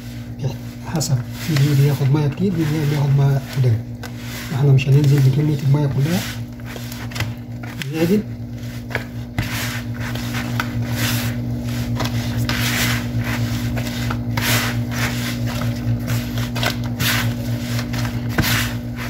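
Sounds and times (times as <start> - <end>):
dough rubbing against plastic bowl: 0.0 - 19.0
steady low hum: 0.0 - 19.0.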